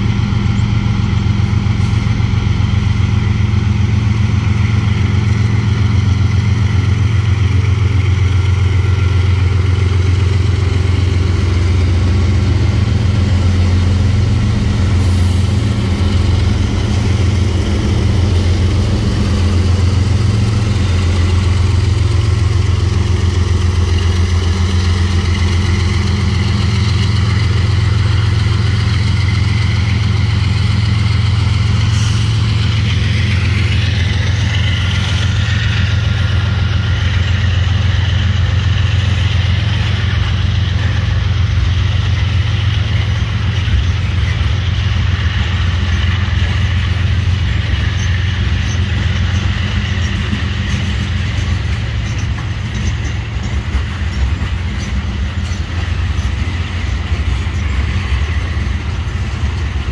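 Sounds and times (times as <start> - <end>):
diesel locomotive engines droning: 0.0 - 59.9
freight cars rolling on rails: 0.0 - 59.9.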